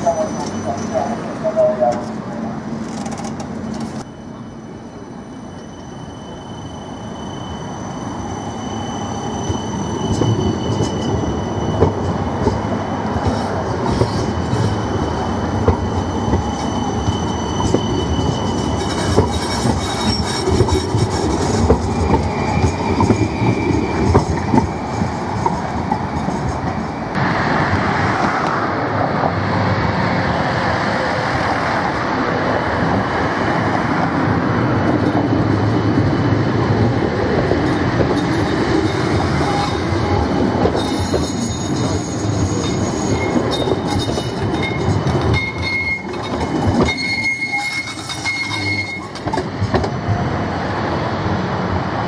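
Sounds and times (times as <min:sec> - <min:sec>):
tram whine and rumble: 0:00.0 - 0:52.0.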